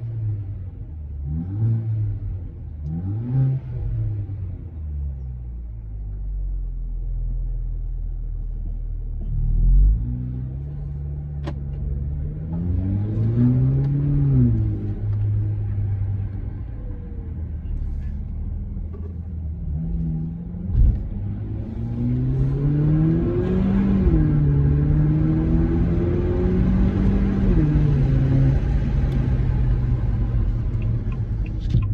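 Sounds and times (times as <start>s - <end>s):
car engine and exhaust revving: 0.0s - 31.9s.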